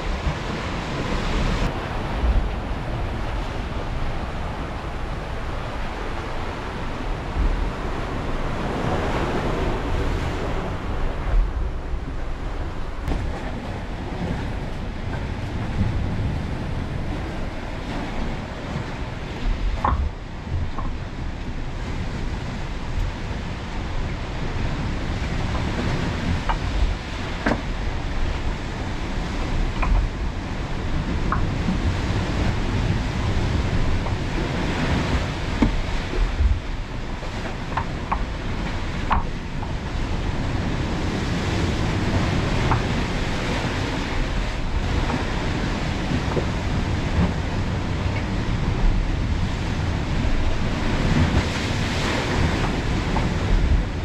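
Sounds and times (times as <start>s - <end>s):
sea waves washing on shore: 0.0s - 54.0s
wind buffeting microphone: 0.0s - 54.0s.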